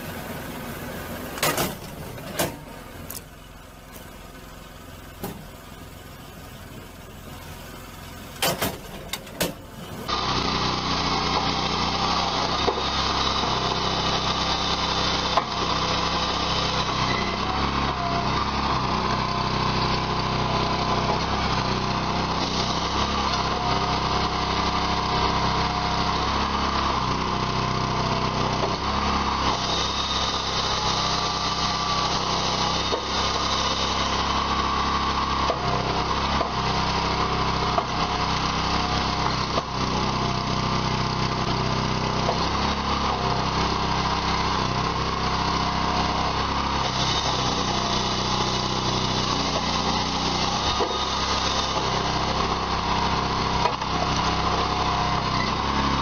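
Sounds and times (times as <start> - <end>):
small engine running under load: 0.0 - 56.0.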